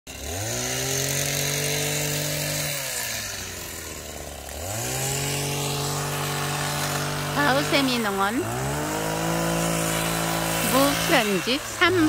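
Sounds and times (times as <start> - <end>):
hedge trimmer revving: 0.1 - 12.0.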